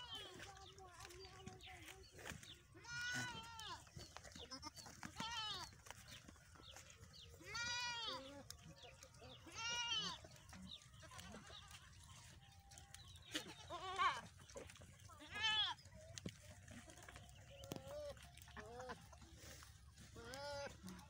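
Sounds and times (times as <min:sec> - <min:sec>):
goats bleating: 0:00.0 - 0:01.1, 0:02.6 - 0:06.0, 0:07.3 - 0:12.4, 0:13.1 - 0:15.9, 0:16.6 - 0:21.0.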